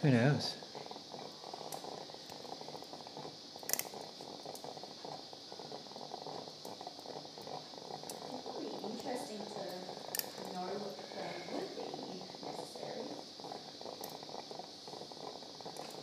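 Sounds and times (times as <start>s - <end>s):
steady hiss: 0.0s - 16.0s
surgical instruments ticking: 0.6s - 16.0s.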